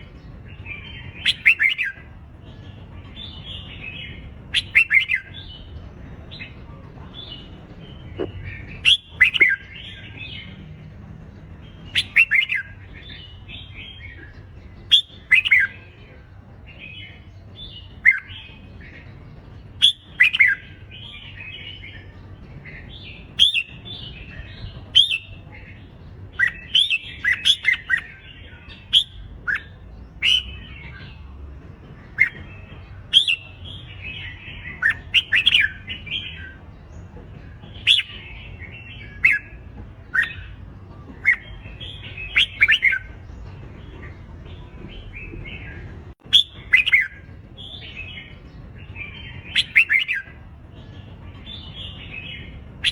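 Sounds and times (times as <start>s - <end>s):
birds whistling and calling: 0.0s - 52.9s.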